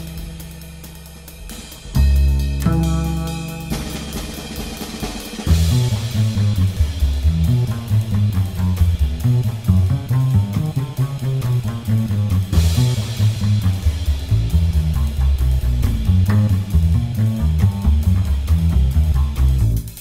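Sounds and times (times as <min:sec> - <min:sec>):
rock beat with drums and bass: 0:00.0 - 0:20.0.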